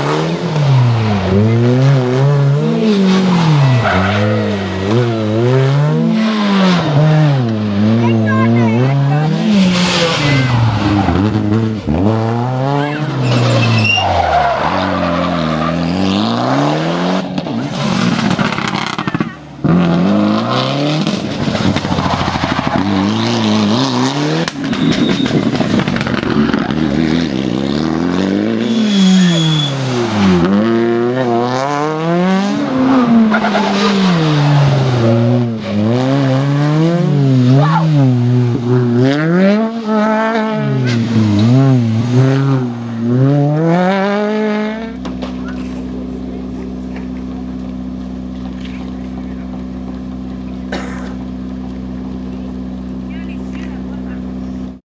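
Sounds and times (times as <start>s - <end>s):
rally car engines revving: 0.0s - 54.8s.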